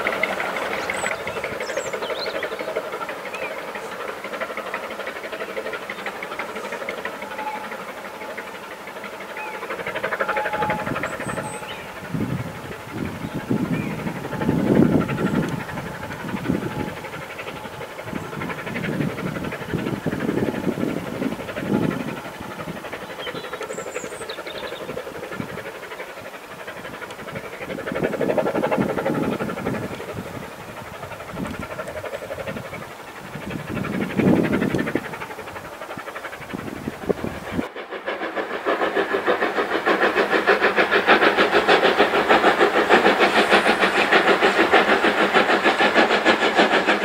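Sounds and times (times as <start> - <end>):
distant steam locomotive exhaust beats: 0.0 - 47.0
steam hiss: 0.0 - 47.0.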